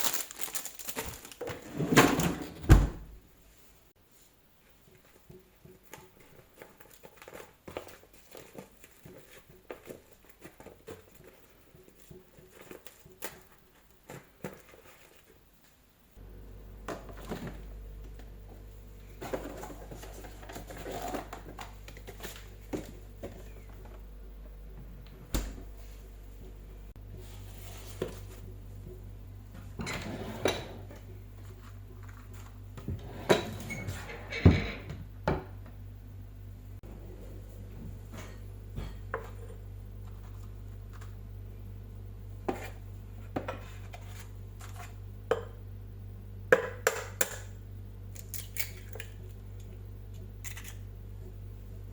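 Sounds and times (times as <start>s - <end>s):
steady low fan hum: 8.0s - 51.9s.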